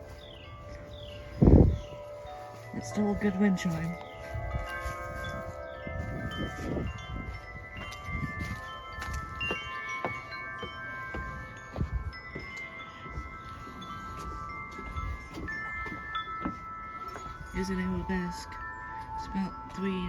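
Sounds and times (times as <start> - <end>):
metal wind chimes ringing: 0.0 - 20.0
wind rumble on microphone: 0.0 - 20.0.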